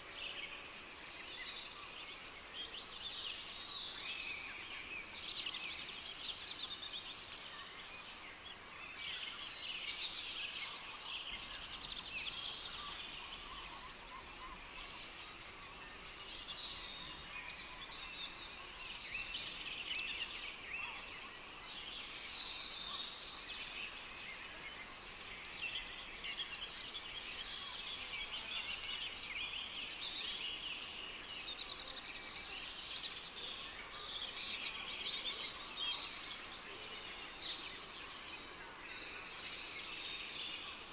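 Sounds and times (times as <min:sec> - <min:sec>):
bird and insect calls: 0:00.0 - 0:40.9.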